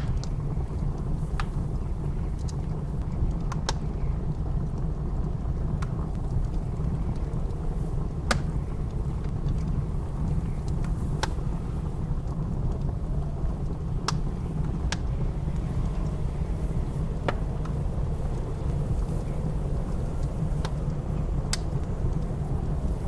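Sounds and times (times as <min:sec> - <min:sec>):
blizzard wind rumble: 0:00.0 - 0:23.0
fire popping: 0:00.0 - 0:23.0
wood fire crackling: 0:00.0 - 0:23.0.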